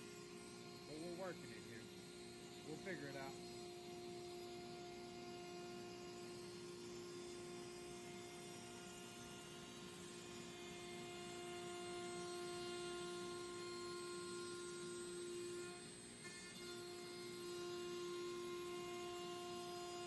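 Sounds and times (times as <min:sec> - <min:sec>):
router spindle whining: 0:00.0 - 0:20.0.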